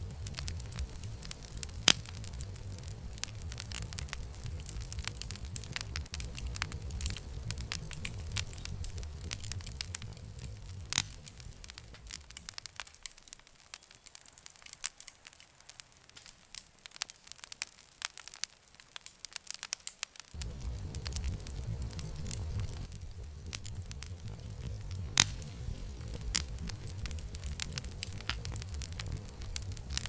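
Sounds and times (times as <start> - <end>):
campfire crackling: 0.0 - 30.0
low rumble of flames: 0.0 - 30.0.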